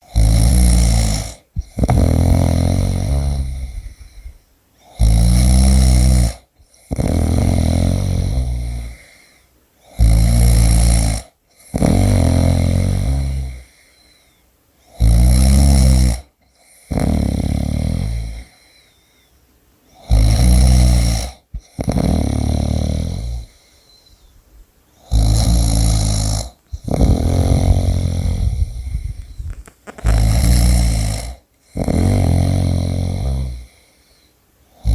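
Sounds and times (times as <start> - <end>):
person snoring loudly: 0.0 - 9.2, 9.9 - 13.8, 14.9 - 18.6, 20.0 - 23.7, 25.0 - 33.8.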